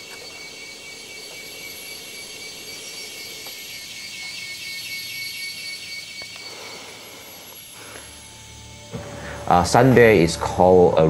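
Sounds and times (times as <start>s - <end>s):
insects droning: 0.0s - 11.0s
rapid pulsing insect trill: 0.0s - 11.0s.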